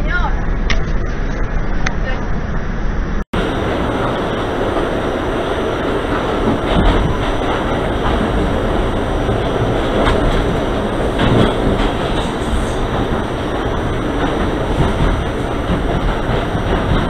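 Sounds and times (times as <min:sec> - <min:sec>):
train wheels rumbling on track: 0:03.3 - 0:17.0.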